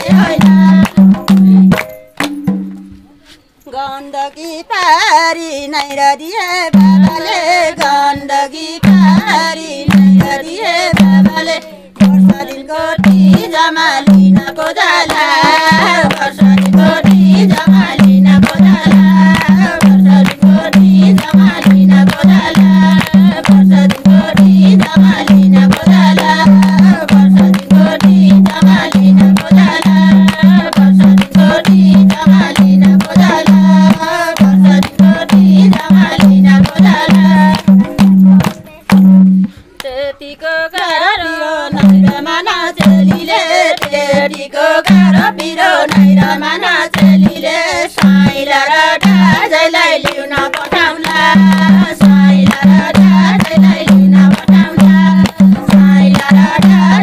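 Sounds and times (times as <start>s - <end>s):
women singing folk song: 0.0s - 1.7s, 3.7s - 57.0s
hand claps: 0.0s - 2.8s, 7.8s - 8.0s, 8.8s - 39.2s, 40.7s - 41.0s, 41.8s - 57.0s
hand drum beating: 0.0s - 3.1s, 6.7s - 39.6s, 41.7s - 57.0s.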